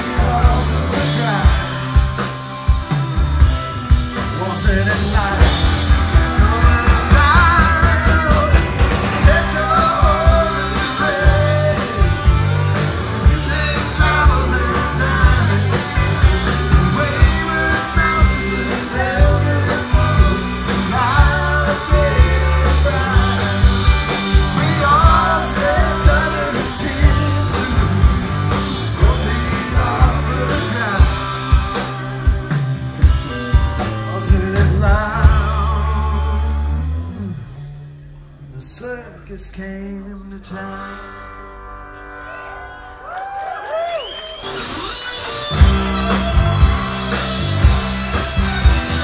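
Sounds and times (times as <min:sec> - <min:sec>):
electric guitar lead line: 0:00.0 - 0:49.0
rock band playing live: 0:00.0 - 0:49.0.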